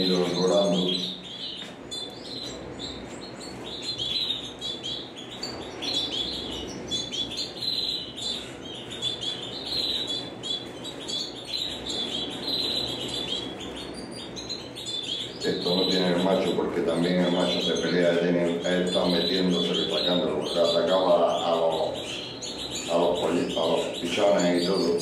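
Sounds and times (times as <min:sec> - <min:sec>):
canaries chirping: 0:00.0 - 0:25.0.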